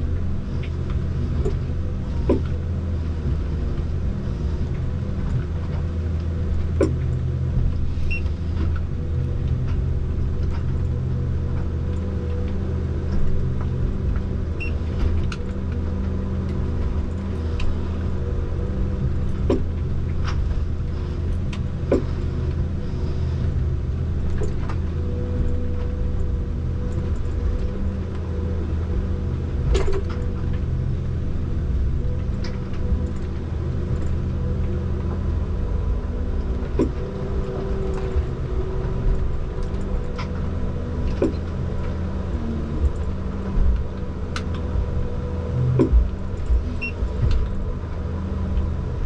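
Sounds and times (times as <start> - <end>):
diesel engine under load: 0.0 - 49.0
hydraulic whine: 0.0 - 49.0.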